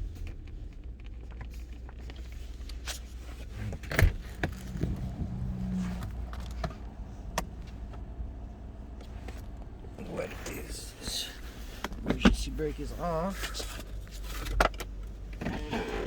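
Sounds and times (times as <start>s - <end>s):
car engine low hum: 0.0s - 16.0s.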